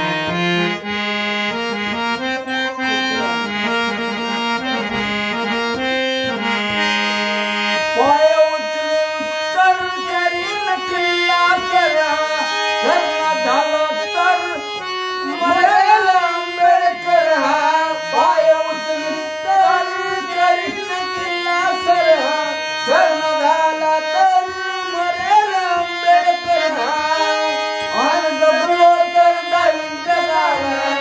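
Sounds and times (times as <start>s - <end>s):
harmonium melody: 0.0s - 31.0s
man singing: 0.0s - 31.0s.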